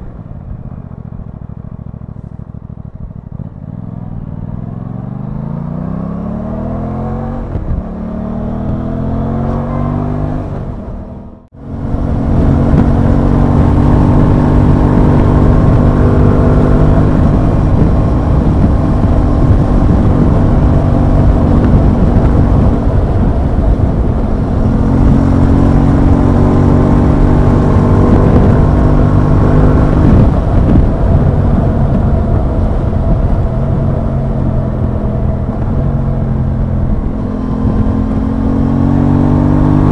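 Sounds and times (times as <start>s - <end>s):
wind rush on microphone: 6.5s - 39.9s.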